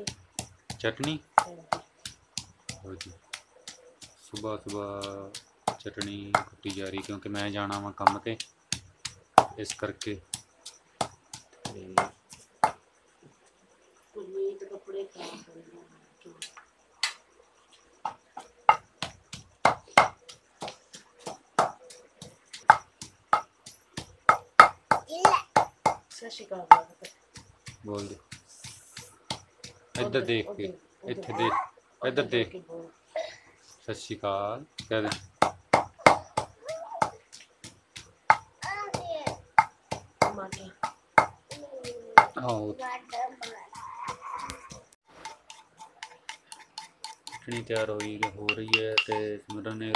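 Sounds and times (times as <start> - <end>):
wooden pestle pounding in mortar: 0.0 - 12.8, 18.0 - 30.4, 34.7 - 49.9.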